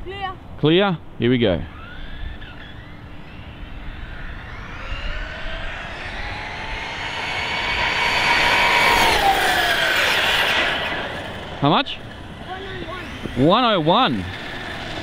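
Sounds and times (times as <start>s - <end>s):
rc truck motor whine: 1.7s - 15.0s.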